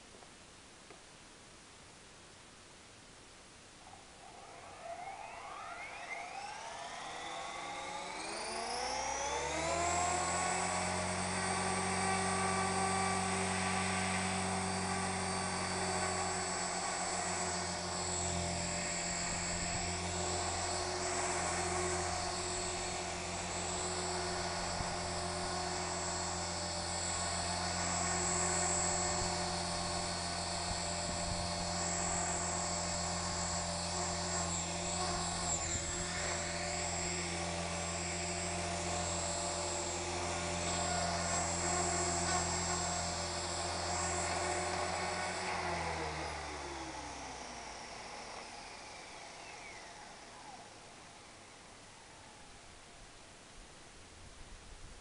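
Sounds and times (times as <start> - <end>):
rc helicopter motor and rotor whine: 4.2 - 52.6.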